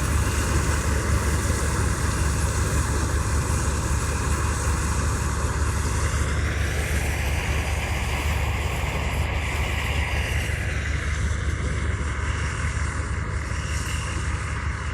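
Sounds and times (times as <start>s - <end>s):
deep engine drone: 0.0s - 14.9s.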